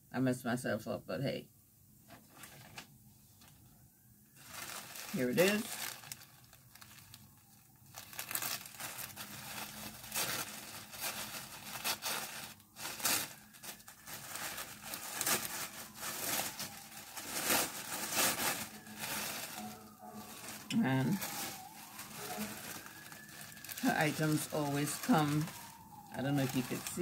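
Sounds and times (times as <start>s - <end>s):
plastic bag tearing and crinkling: 4.4s - 27.0s.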